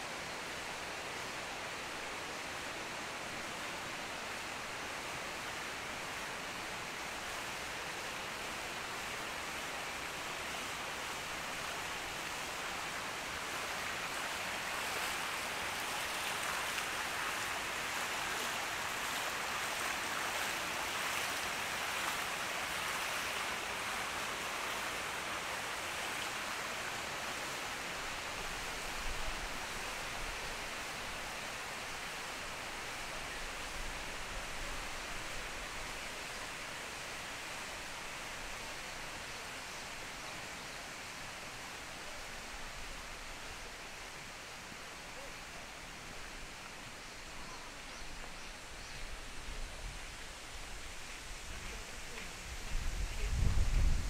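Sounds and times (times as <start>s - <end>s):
waterfall rushing: 0.1s - 52.7s.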